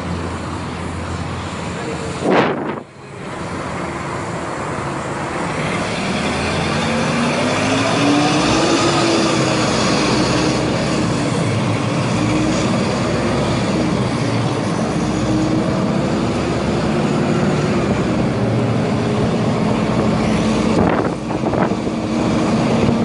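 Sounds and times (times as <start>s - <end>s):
diesel bus engine pulling away: 0.0s - 23.0s.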